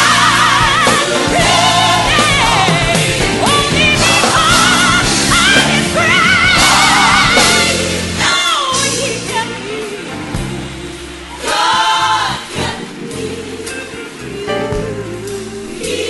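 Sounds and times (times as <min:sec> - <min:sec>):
gospel band and choir: 0:00.0 - 0:16.0.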